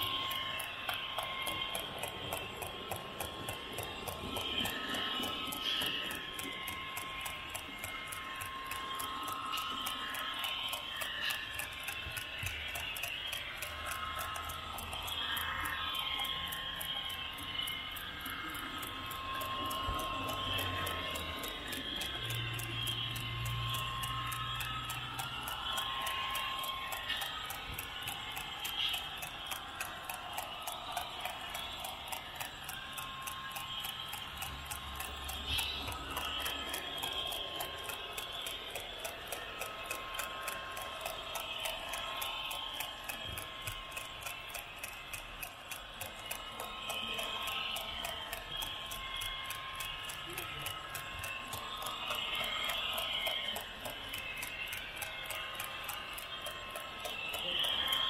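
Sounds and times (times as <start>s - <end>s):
low running hum: 0.0s - 58.0s
model train wheels clicking: 0.0s - 58.0s.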